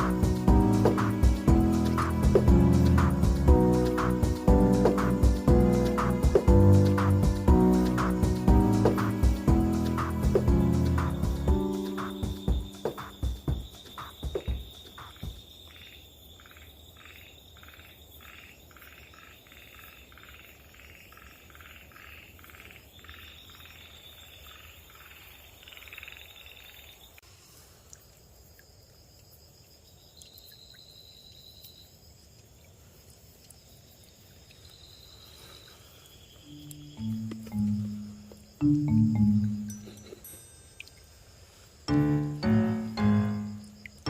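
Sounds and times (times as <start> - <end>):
frogs croaking: 0.0 - 27.2, 27.8 - 44.0
high insect trill: 0.0 - 44.0.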